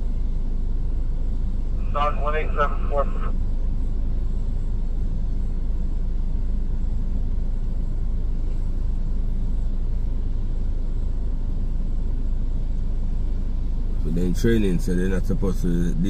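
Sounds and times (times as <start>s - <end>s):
engine rumble inside vehicle cab: 0.0s - 16.0s.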